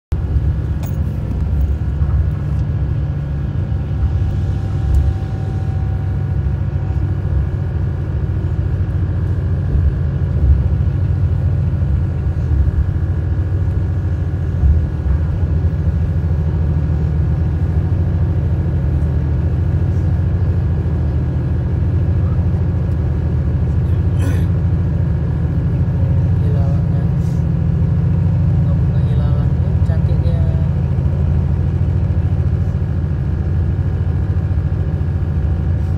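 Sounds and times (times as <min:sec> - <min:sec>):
vehicle engine and road noise: 0:00.1 - 0:35.9.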